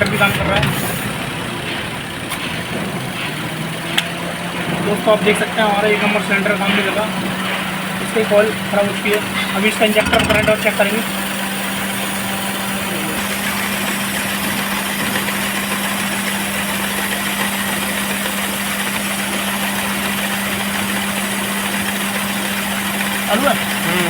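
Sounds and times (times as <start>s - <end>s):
misfiring car engine idling: 0.0s - 24.0s.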